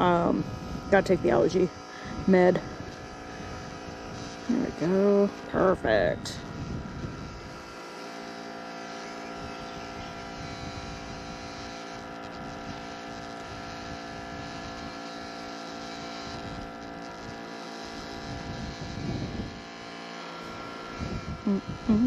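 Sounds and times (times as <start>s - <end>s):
coffee maker humming: 0.0s - 22.0s.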